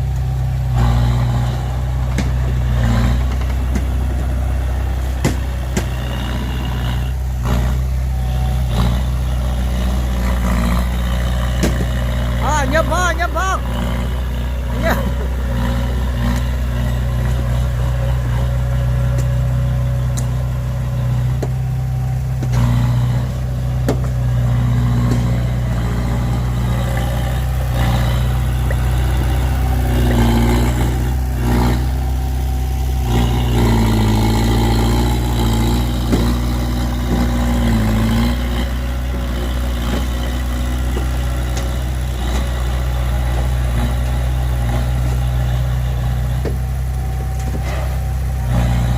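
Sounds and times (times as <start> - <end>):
diesel engine revving: 0.0 - 48.9.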